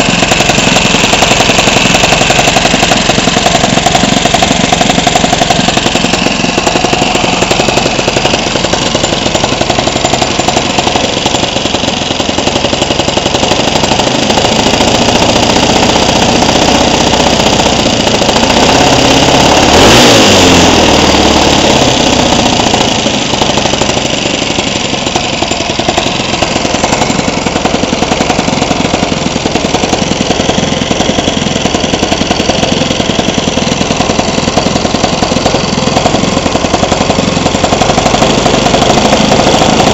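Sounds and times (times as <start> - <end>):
kart engine idling and revving: 0.0 - 39.9.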